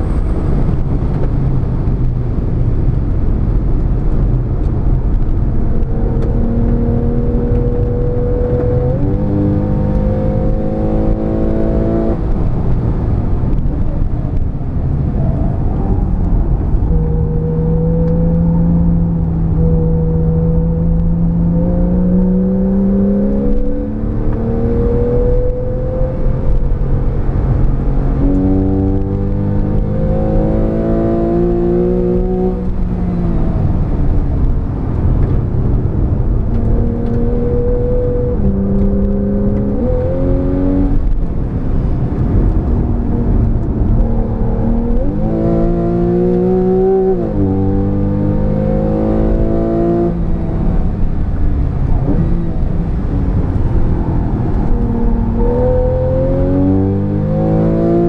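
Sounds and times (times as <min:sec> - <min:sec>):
car engine accelerating hard: 0:00.0 - 0:58.0
tyre and road rumble: 0:00.0 - 0:58.0.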